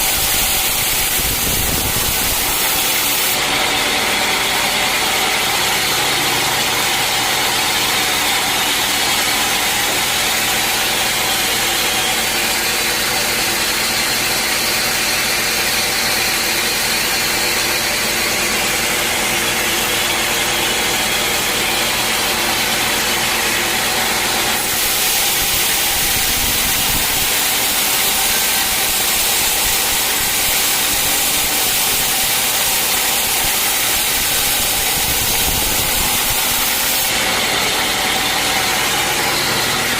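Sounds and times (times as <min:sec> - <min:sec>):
sawmill machinery sawing logs: 0:00.0 - 0:39.9.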